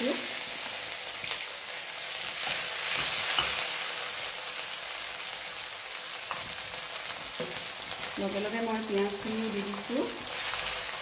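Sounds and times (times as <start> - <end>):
garlic and ginger sizzling in oil: 0.0 - 11.0.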